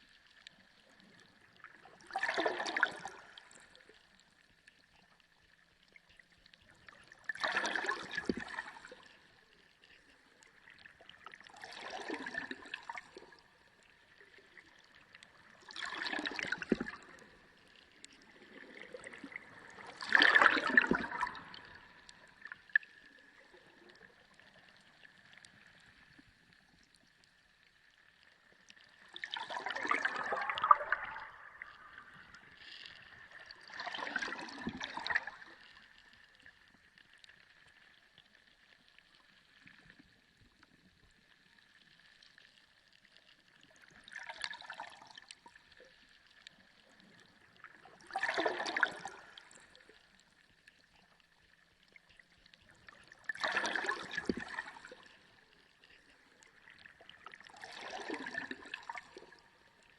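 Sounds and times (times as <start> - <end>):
water gurgling and sloshing: 0.0 - 59.9.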